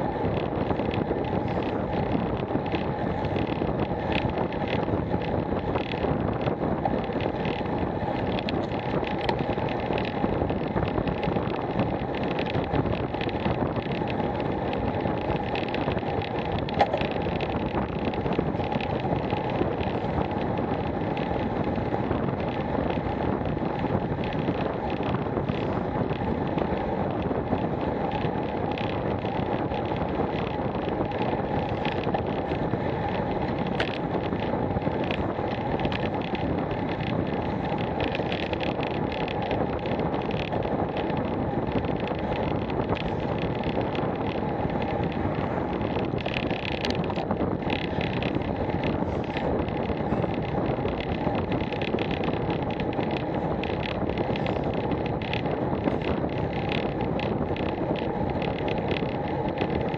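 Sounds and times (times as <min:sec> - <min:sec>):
bicycle tyre noise on tarmac: 0:00.0 - 0:59.9
wind buffeting microphone: 0:00.0 - 0:59.9.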